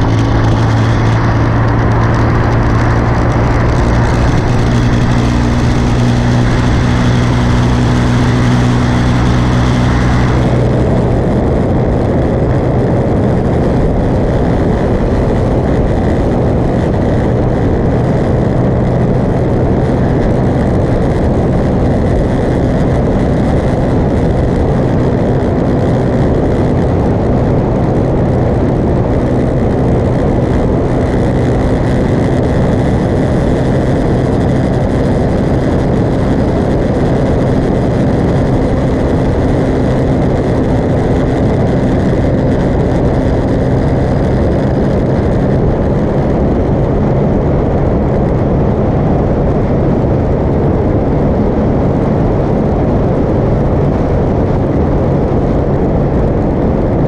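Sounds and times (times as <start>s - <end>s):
motorcycle engine humming: 0.0s - 57.0s
wind rush on microphone: 0.0s - 57.0s.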